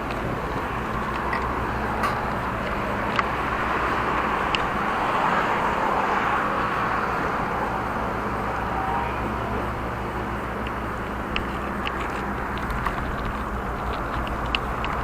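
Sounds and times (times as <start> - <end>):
bicycle road rumble: 0.0 - 15.0
wind noise on camera: 0.0 - 15.0.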